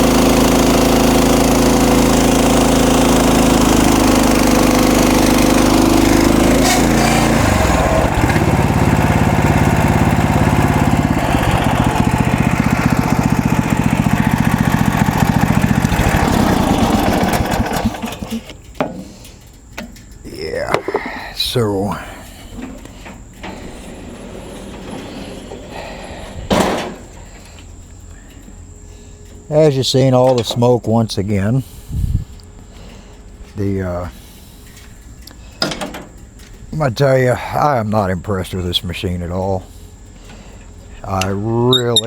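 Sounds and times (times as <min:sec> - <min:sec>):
sawmill gasoline engine running: 0:00.0 - 0:42.0.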